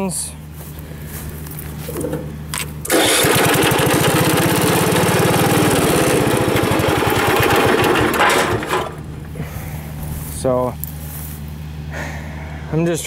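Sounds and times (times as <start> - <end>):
single-cylinder engine running: 0.6 - 11.4.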